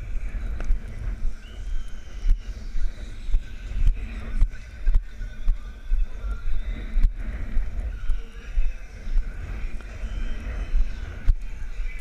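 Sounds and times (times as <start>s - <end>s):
horse hoofbeats cantering: 0.0s - 12.0s
wind rumble on microphone: 0.0s - 12.0s.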